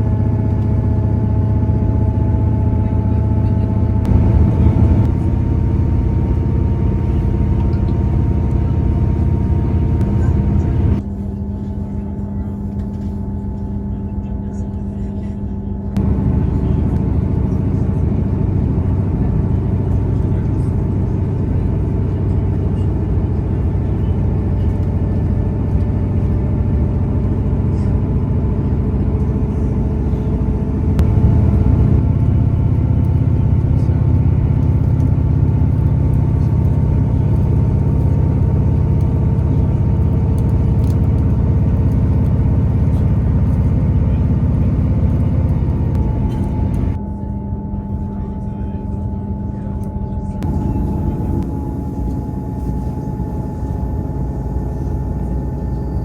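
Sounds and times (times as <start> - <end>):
droning engine: 0.0 - 56.0
train rumble from inside: 0.0 - 56.0.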